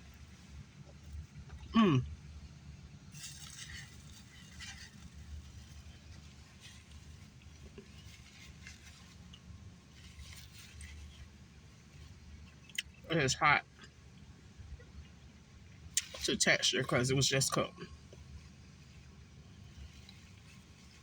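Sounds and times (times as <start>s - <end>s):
steady low hum: 0.0s - 21.0s
chewing crisp fried food: 2.9s - 21.0s.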